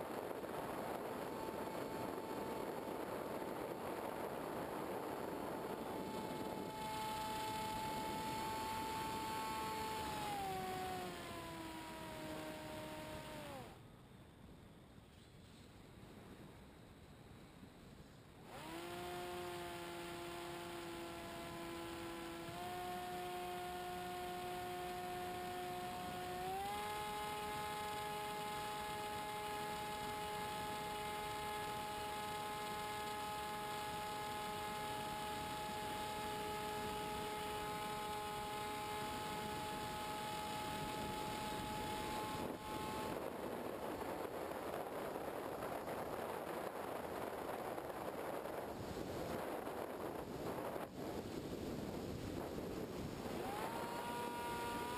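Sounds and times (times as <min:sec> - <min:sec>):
wind noise: 0:00.0 - 0:54.9
electric motor whining: 0:00.2 - 0:13.8, 0:18.4 - 0:47.6, 0:53.2 - 0:54.9.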